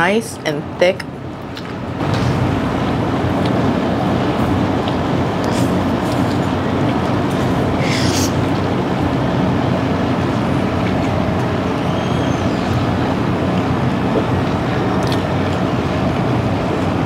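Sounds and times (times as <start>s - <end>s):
restaurant dining room noise: 0.0s - 17.0s.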